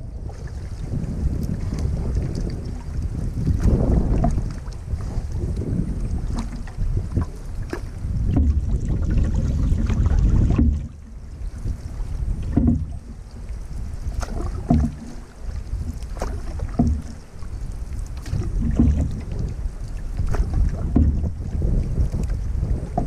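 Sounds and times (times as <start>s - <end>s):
paddle splashing water: 0.0s - 23.0s
wind rumbling on microphone: 0.0s - 23.0s.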